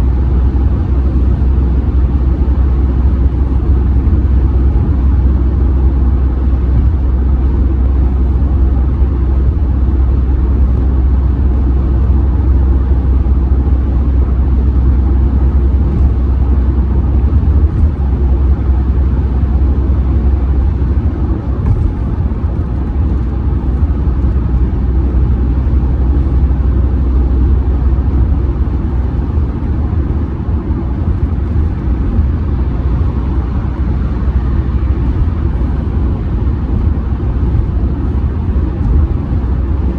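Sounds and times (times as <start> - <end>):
diesel engine: 0.0 - 39.9
tyre and road noise: 0.0 - 39.9.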